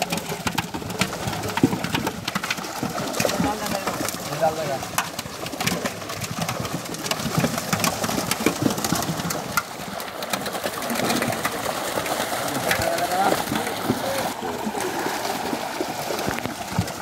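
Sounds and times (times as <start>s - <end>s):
fish splashing in water: 0.0s - 17.0s.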